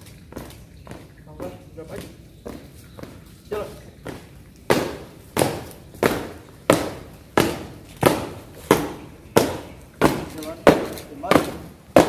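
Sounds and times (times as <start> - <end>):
shoes stamping on pavement: 0.0 - 12.0.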